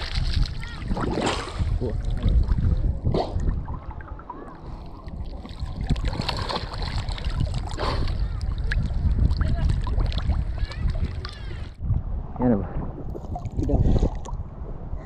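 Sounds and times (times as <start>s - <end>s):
sea water sloshing: 0.0s - 14.6s
wind rumbling on microphone: 0.0s - 15.0s.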